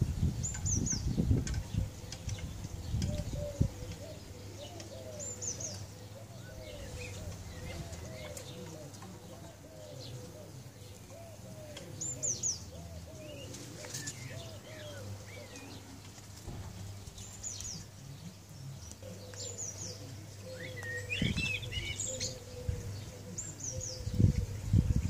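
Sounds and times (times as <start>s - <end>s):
low cooing bird call: 0.3s - 25.0s.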